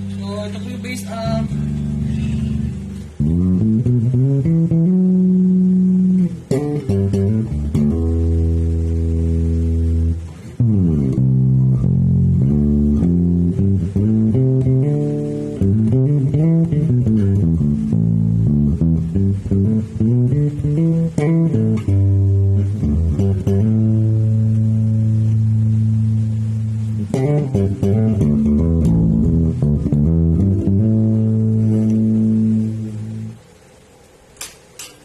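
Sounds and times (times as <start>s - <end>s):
electric bass guitar notes: 0.0s - 33.8s.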